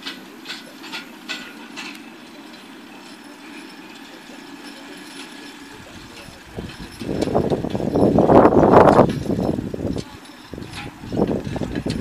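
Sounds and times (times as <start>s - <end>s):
mower mechanical hum: 0.0s - 12.0s.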